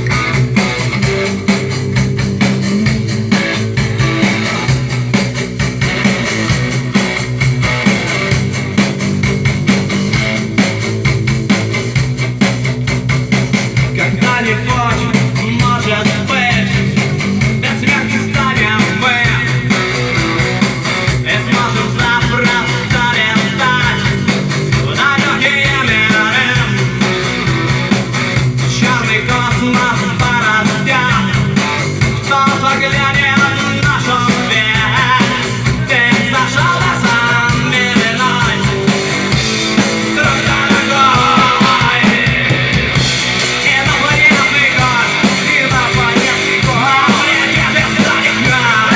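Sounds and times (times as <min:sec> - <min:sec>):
guitars: 0:00.0 - 0:48.9
rock band playing: 0:00.0 - 0:48.9.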